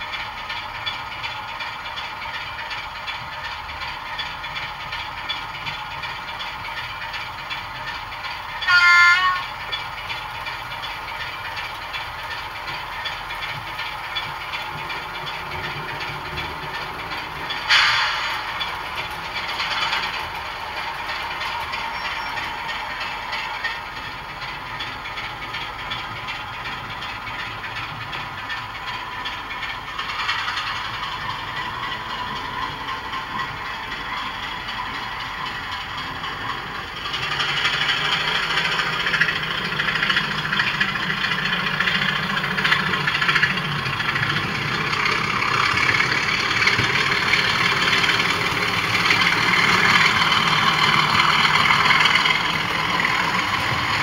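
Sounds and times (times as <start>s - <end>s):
model train wheel rattle: 0.0s - 54.0s.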